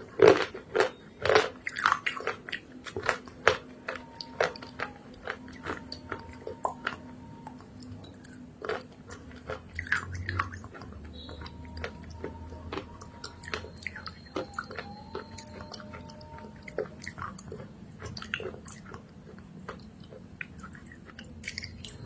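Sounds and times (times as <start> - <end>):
chewing crunches: 0.0 - 22.0.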